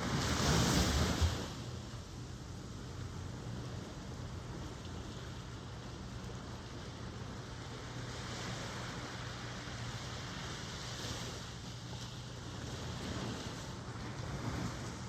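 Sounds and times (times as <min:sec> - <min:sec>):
ocean waves washing on shore: 0:00.0 - 0:15.0.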